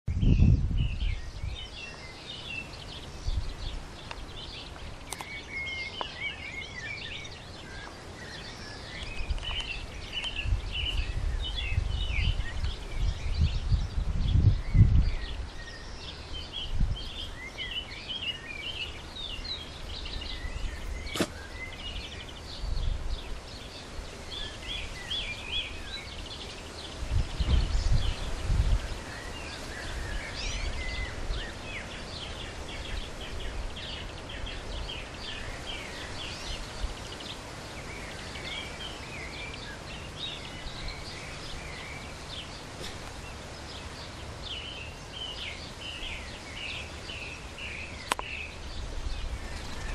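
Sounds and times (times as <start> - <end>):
wind rumbling on microphone: 0.0 - 49.9
birds chirping and singing: 0.1 - 49.9.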